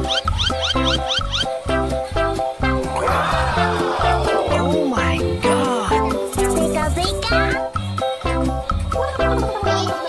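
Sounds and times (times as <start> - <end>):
upbeat children's music: 0.0 - 10.0.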